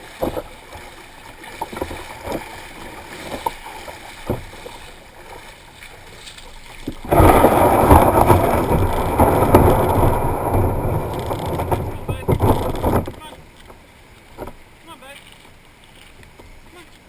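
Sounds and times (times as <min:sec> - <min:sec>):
kayak hull scraping over shells: 0:00.0 - 0:16.6
water lapping around kayak: 0:00.0 - 0:17.0.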